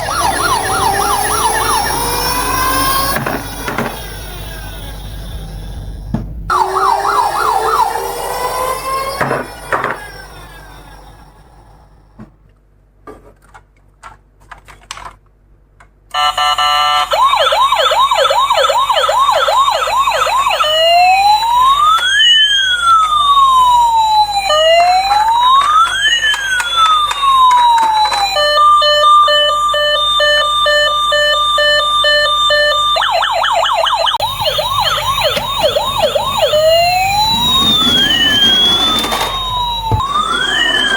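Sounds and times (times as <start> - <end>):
electronic ambulance siren: 0.0 - 12.0, 16.2 - 40.9.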